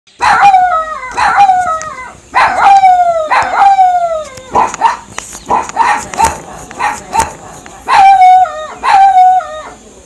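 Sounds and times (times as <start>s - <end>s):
dog barking with long cries: 0.1s - 10.0s.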